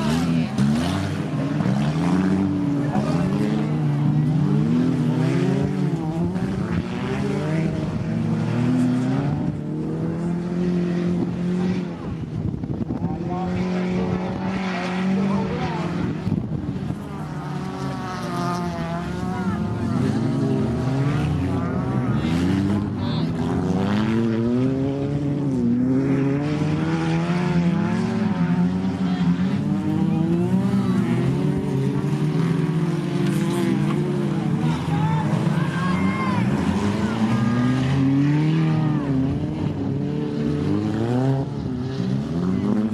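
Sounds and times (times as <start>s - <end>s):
racing car engines revving: 0.0s - 42.9s.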